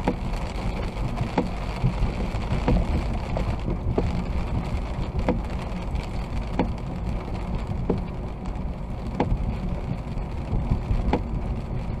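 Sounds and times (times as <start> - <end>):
rain hiss: 0.0 - 12.0
road and engine rumble: 0.0 - 12.0.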